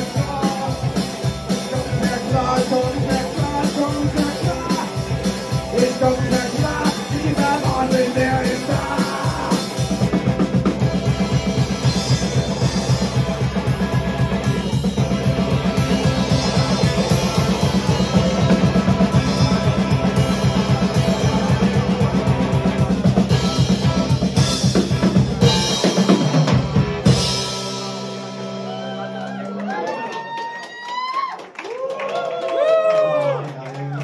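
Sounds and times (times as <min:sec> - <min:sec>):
drum kit beat: 0:00.0 - 0:29.2
electric guitar: 0:00.0 - 0:31.0.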